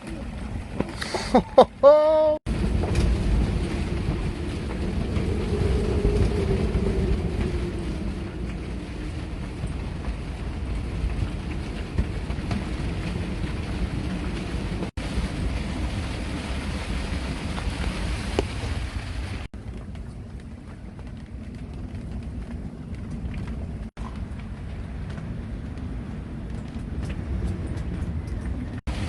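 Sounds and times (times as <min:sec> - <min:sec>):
wind buffeting microphone: 0:02.5 - 0:29.0.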